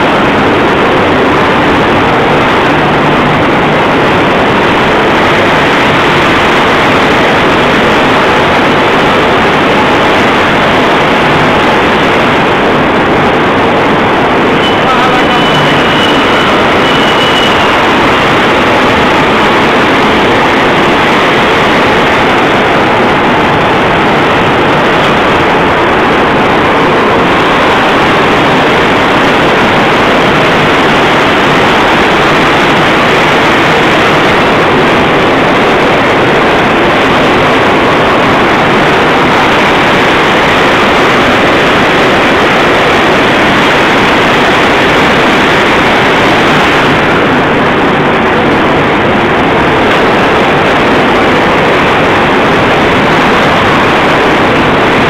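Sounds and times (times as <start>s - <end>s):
rolling mill machinery din: 0.0s - 55.0s.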